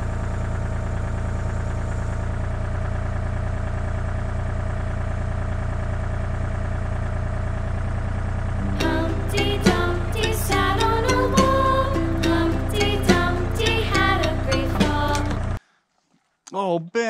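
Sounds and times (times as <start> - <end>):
excavator engine humming: 0.0 - 15.6.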